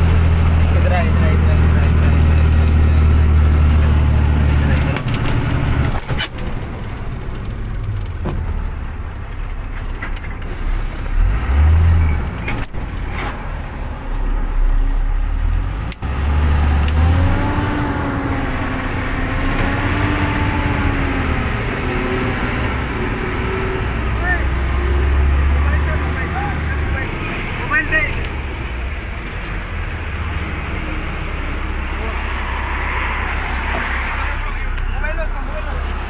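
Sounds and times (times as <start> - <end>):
truck engine and road noise: 0.0 - 36.0.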